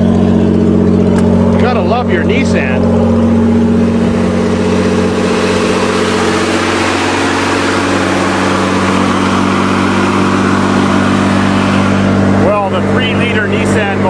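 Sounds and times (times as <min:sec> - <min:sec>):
engine fast idle: 0:00.0 - 0:14.0.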